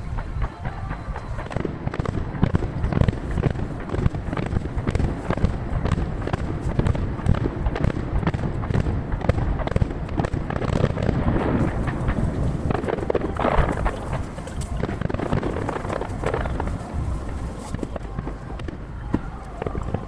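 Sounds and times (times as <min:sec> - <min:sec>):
firework shells bursting: 0:00.0 - 0:20.0.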